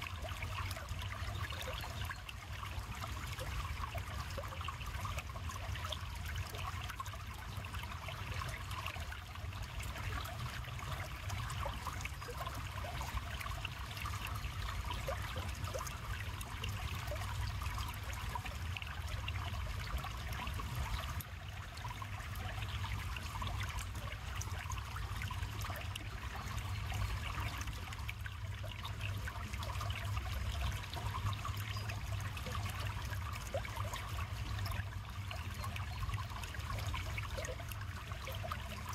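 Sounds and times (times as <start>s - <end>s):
river water flowing and trickling: 0.0s - 38.9s.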